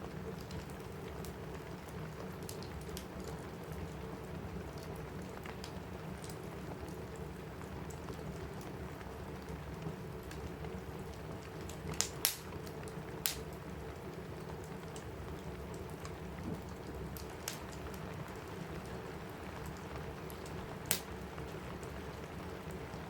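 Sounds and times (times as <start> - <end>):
rain pattering on a roof: 0.0 - 23.0
wood fire popping: 0.1 - 23.0.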